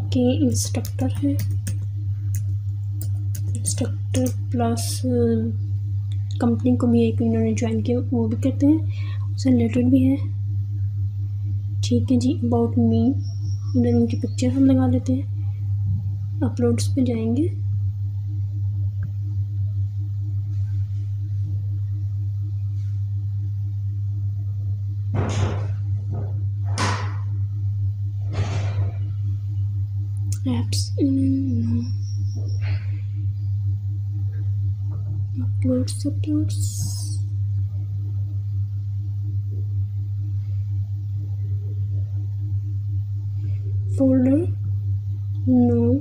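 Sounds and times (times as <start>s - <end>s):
low hum with regular pulsing: 0.0s - 46.0s.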